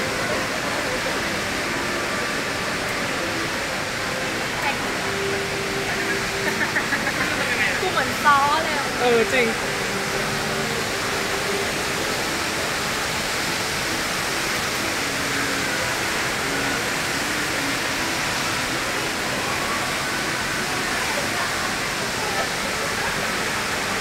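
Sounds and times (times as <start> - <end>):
faint voices: 0.0 - 24.0
indoor waterfall rushing: 0.0 - 24.0.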